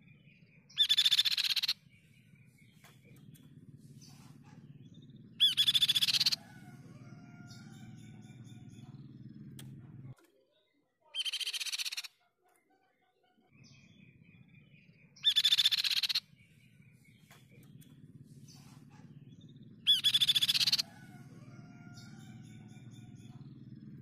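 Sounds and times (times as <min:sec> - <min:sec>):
bird singing fast trills: 0:00.0 - 0:09.6, 0:11.1 - 0:12.2, 0:13.5 - 0:24.0.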